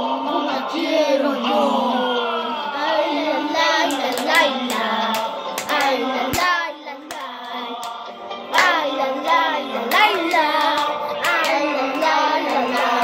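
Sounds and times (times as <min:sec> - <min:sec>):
boys singing: 0:00.0 - 0:13.0.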